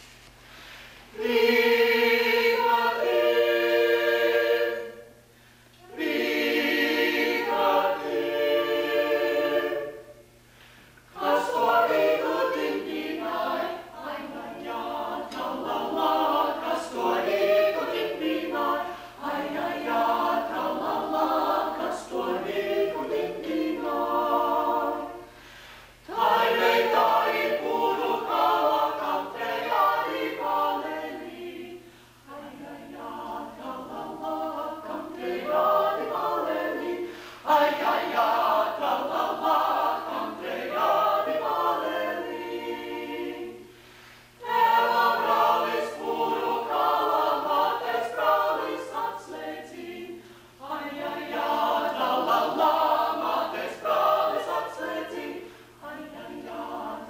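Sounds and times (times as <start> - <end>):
a cappella group singing: 1.0 - 10.4, 11.0 - 57.0.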